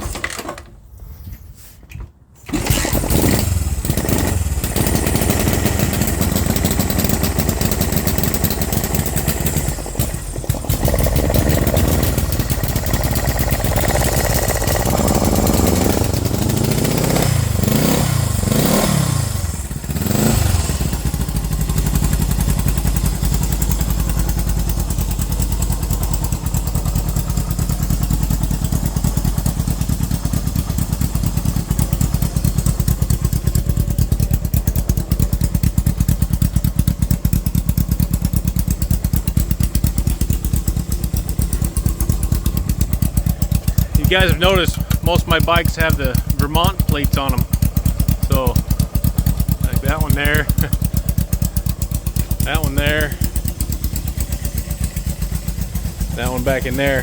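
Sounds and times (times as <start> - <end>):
motorcycle engine starting and idling: 0.0 - 57.0.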